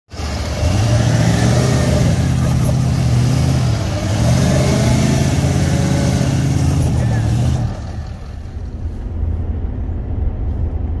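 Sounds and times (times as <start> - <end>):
diesel truck engine revving: 0.1 - 9.1.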